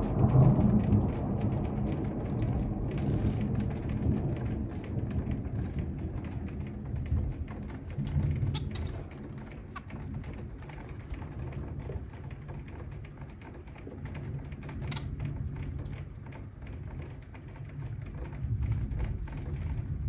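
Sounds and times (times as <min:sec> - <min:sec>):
low rumble of thunder: 0:00.0 - 0:20.0
rain pattering: 0:00.0 - 0:20.0.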